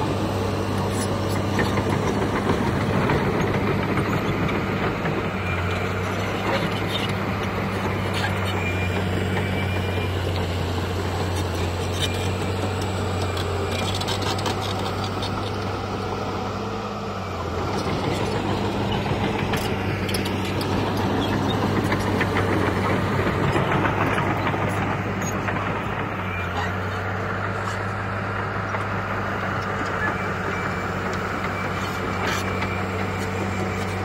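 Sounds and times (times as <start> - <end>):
diesel machinery engine hum: 0.0 - 34.0
loud rough machine noise: 0.0 - 34.0.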